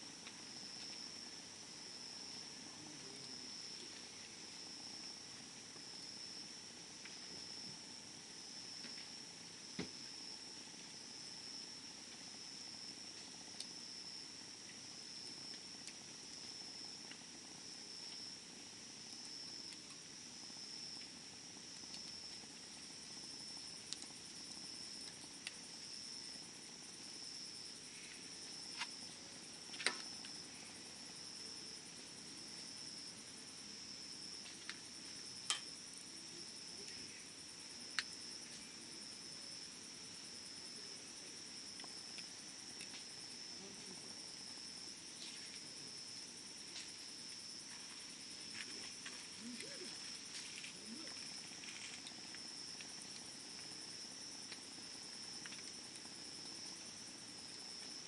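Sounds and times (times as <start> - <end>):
wood fire popping and crackling: 0.0 - 35.8, 41.5 - 58.0
insects trilling: 0.0 - 58.0.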